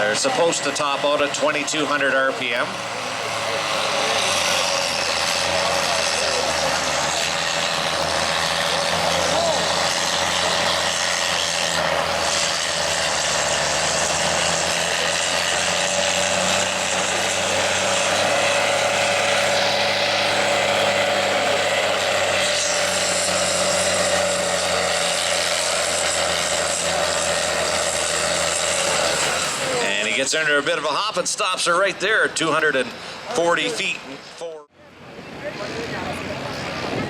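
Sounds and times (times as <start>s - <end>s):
tractor diesel engine droning: 0.0s - 37.0s.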